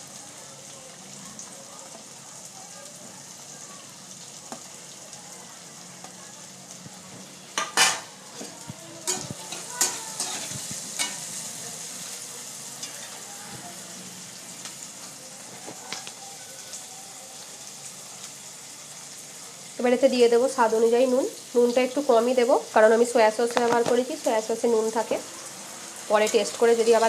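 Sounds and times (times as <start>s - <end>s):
vegetables sizzling in hot oil: 0.0s - 27.0s.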